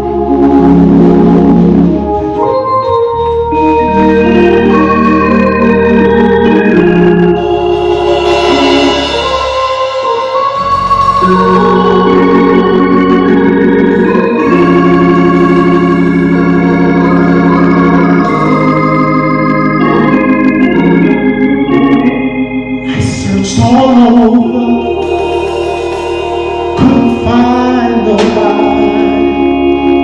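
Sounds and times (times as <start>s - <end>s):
organ playing chords: 0.0s - 30.0s.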